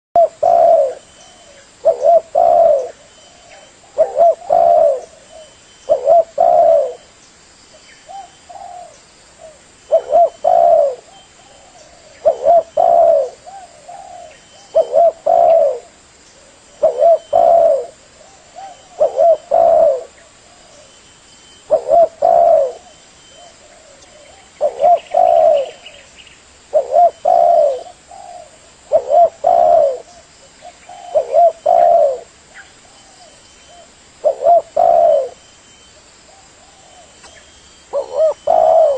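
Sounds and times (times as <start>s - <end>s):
dove cooing: 0.2s - 7.1s, 8.1s - 20.9s, 21.6s - 26.1s, 26.7s - 35.4s, 36.0s - 38.9s.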